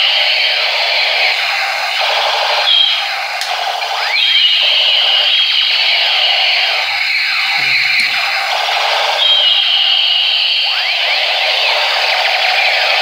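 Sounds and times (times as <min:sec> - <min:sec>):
toy gun electronic warble: 0:00.0 - 0:13.0.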